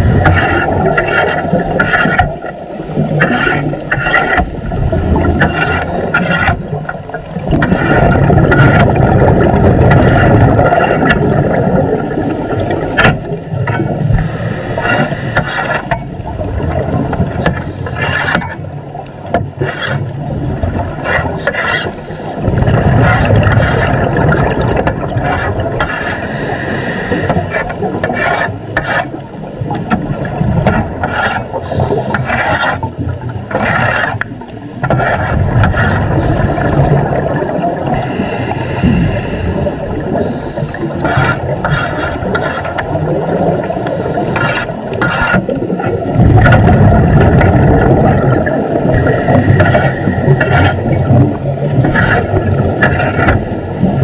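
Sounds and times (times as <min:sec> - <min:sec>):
metal pole scraping underwater: 0:00.0 - 0:11.7, 0:12.6 - 0:16.1, 0:17.1 - 0:54.0.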